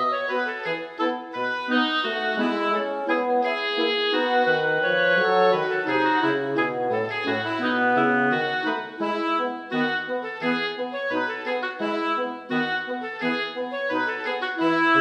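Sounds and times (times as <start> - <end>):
keyboard chords: 0.0 - 15.0
reed-like wind instrument melody: 0.0 - 15.0.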